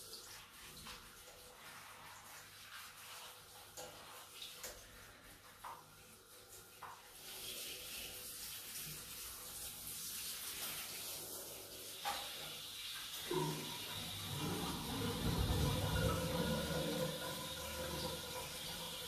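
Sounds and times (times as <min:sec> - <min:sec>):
shower head spraying water: 0:00.6 - 0:19.0.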